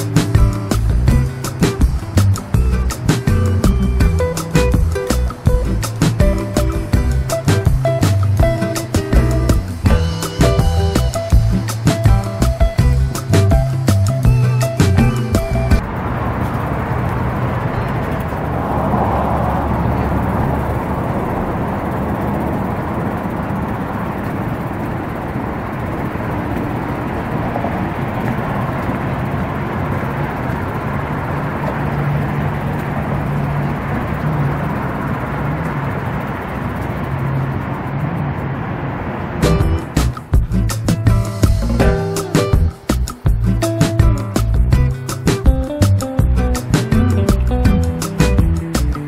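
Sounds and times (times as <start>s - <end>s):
faint engine hum: 0.0s - 49.0s
road traffic rumble: 0.0s - 49.0s.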